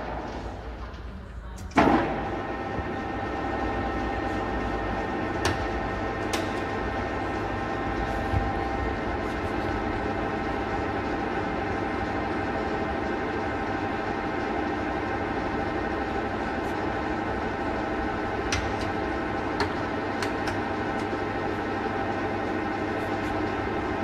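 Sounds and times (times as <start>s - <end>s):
lathe machine hum: 2.0s - 24.0s.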